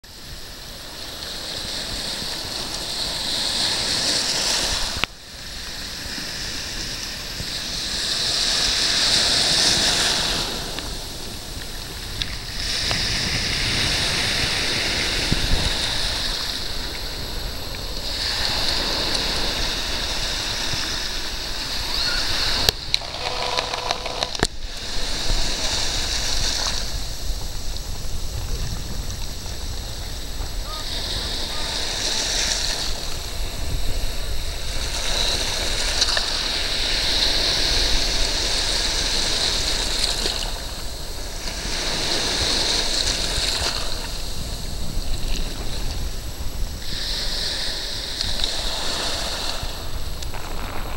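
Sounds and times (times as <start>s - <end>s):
small waves breaking on shore: 0.1s - 50.9s.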